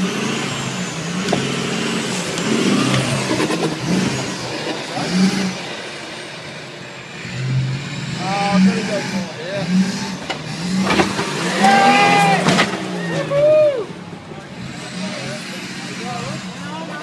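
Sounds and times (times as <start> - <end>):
pickup engine revving: 0.0 - 17.0.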